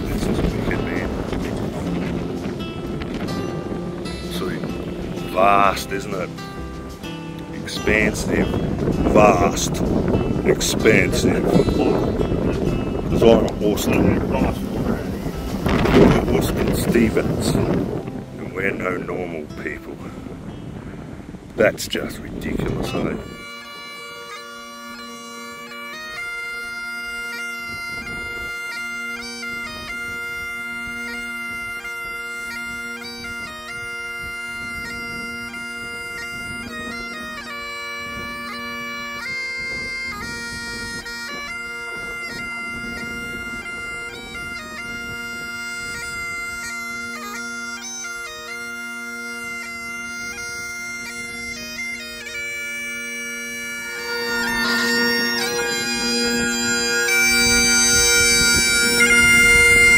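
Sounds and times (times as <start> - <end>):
bagpipes playing a tune: 0.0 - 59.9.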